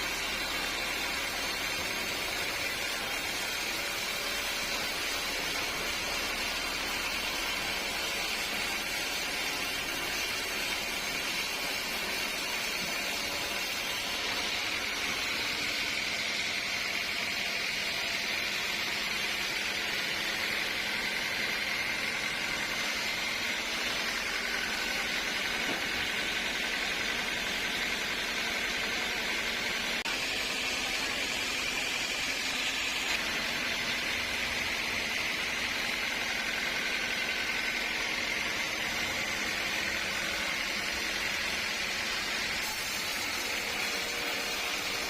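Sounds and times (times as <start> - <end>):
sawmill machinery hissing: 0.0 - 45.0.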